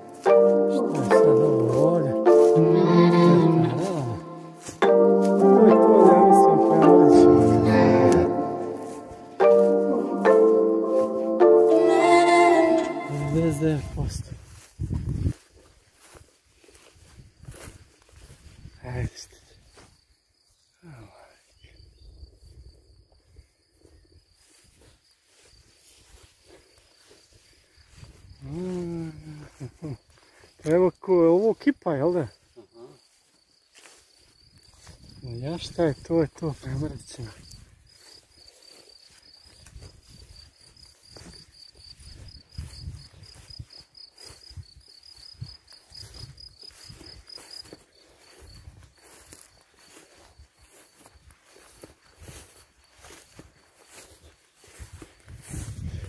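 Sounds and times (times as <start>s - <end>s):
insect high-pitched trill: 0.0s - 14.7s, 16.0s - 55.6s.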